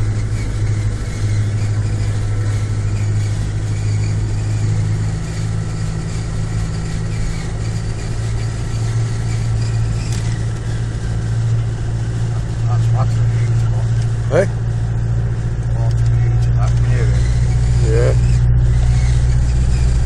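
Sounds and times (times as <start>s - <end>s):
engine running with low drone: 0.0s - 20.0s.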